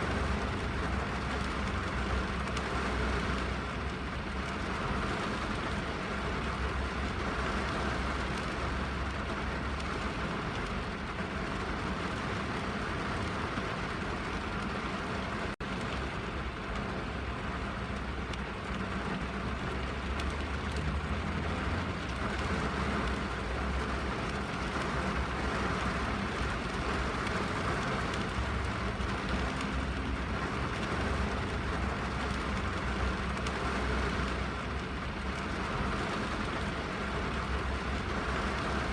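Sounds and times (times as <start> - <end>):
rain on car roof: 0.0 - 38.9.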